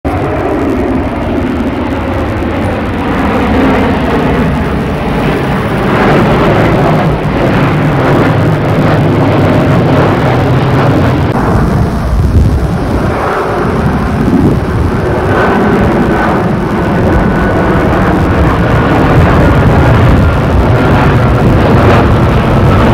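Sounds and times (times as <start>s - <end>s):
jet airliner passing overhead: 0.1s - 22.9s.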